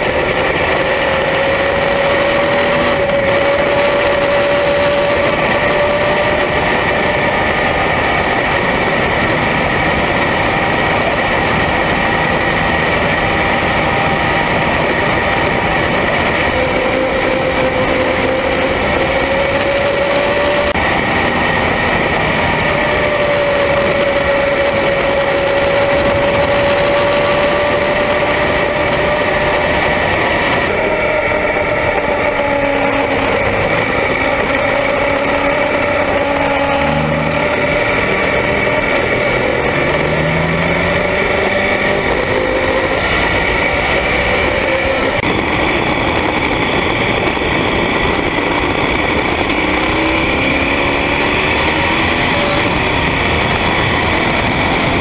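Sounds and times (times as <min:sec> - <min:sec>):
motorcycle engine: 0:00.0 - 0:55.0
wind noise: 0:00.0 - 0:55.0.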